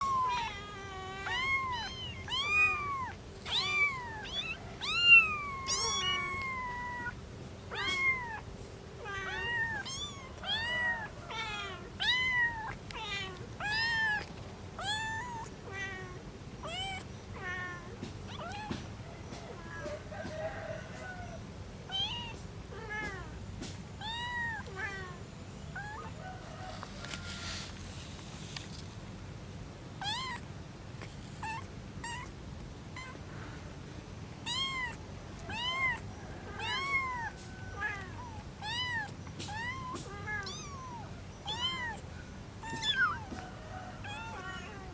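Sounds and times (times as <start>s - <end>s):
kittens mewing: 0.0s - 27.2s, 30.0s - 33.7s, 34.4s - 44.9s
low background hum: 0.0s - 44.9s.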